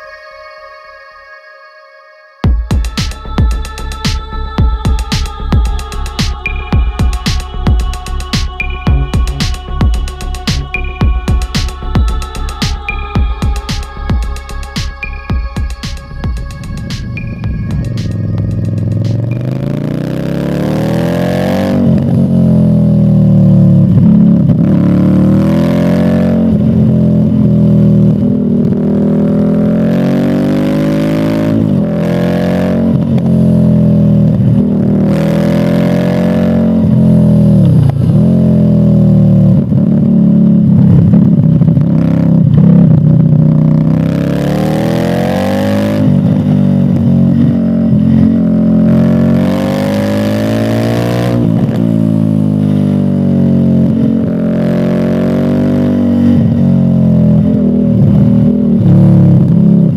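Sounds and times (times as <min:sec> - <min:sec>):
motorcycle engine revving: 0:02.5 - 0:59.9.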